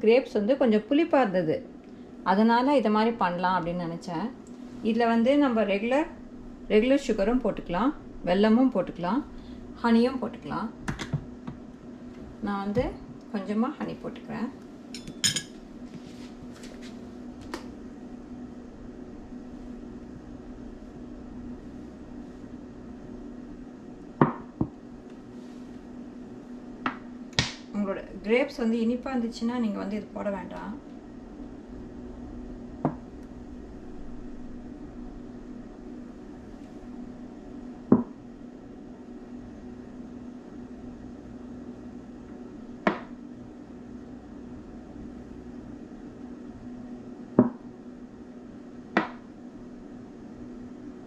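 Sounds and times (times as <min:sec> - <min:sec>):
low kitchen hum: 0:00.0 - 0:51.0.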